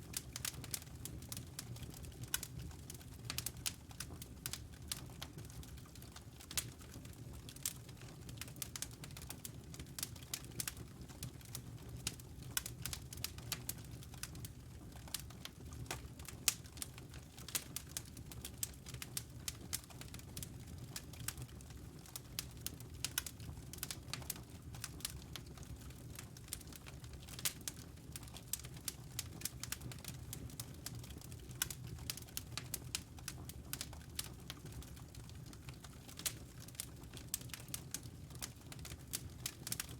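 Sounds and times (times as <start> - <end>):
wood fire crackling: 0.0 - 39.9
fire popping and snapping: 0.1 - 39.9.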